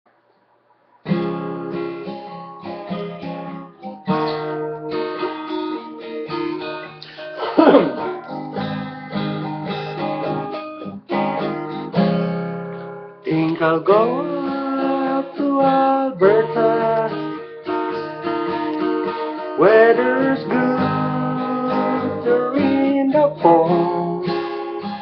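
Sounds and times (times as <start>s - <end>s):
acoustic guitar strumming: 1.0s - 25.0s.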